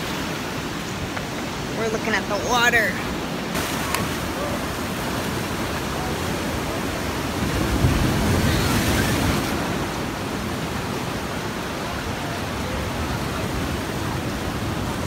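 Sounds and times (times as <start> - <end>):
ocean surf washing against rocks: 0.0 - 15.0.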